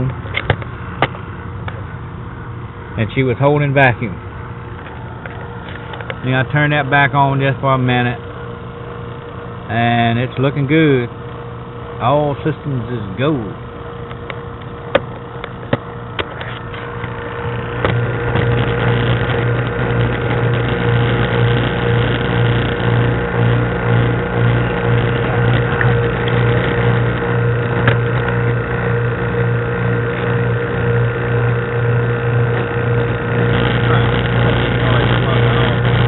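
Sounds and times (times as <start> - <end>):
vacuum pump humming: 0.0 - 36.0.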